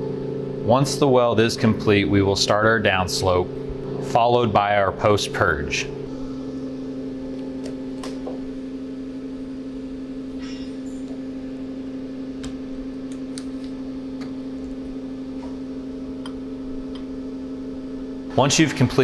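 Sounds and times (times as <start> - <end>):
electrical hum of equipment: 0.0 - 19.0.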